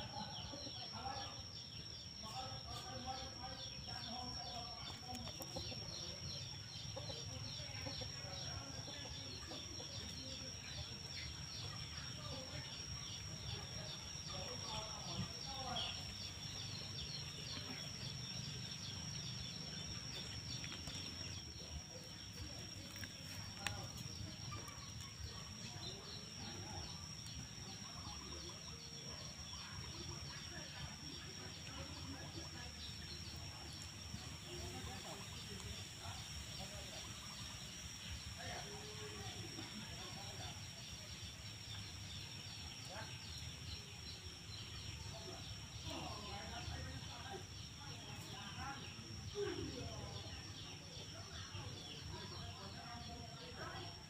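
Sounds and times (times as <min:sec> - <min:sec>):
chickens clucking faintly: 0:00.0 - 0:54.0.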